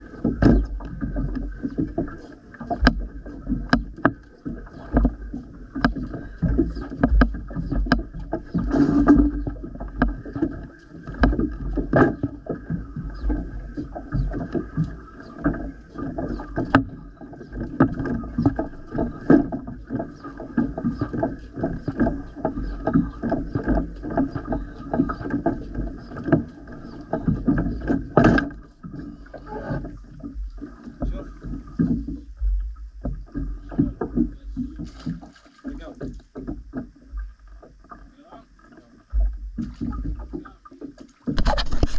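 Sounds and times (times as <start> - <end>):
knocks and thuds on boat: 0.0 - 41.9
water splashing against hull: 0.0 - 41.9.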